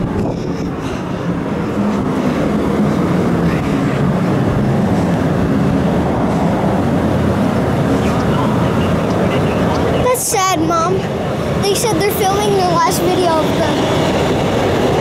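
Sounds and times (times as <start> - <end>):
large ventilation fan drone: 0.0 - 15.0.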